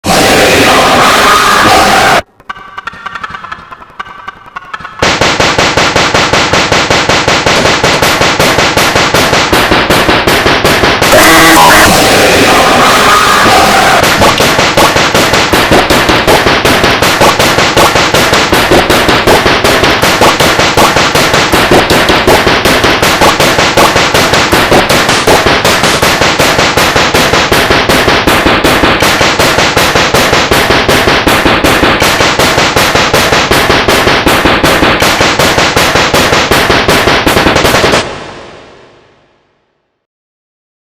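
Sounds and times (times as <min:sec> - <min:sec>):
loud looped remix music: 0:00.0 - 0:38.1.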